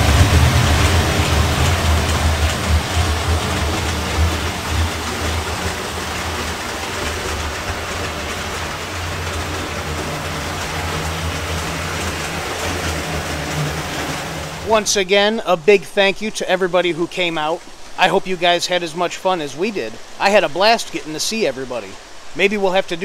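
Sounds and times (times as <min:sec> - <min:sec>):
model train rumbling on track: 0:00.0 - 0:23.0.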